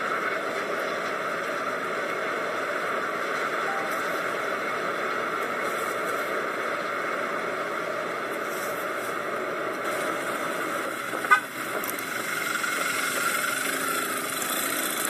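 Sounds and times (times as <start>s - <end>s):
freeway traffic: 0.0s - 15.0s.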